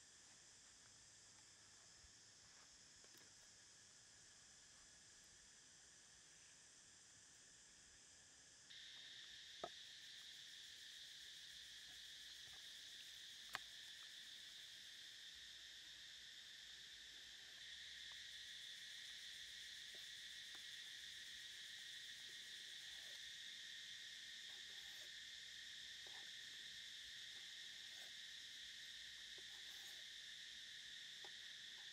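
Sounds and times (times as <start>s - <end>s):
insects chirping: 0.0s - 31.9s.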